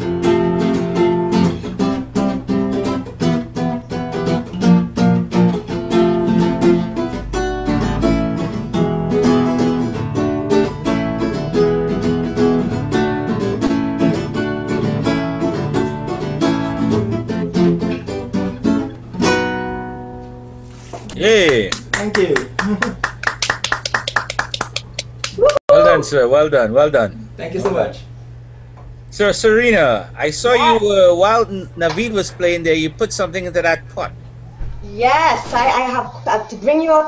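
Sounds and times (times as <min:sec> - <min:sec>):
acoustic guitar playing: 0:00.0 - 0:23.2, 0:29.8 - 0:36.9.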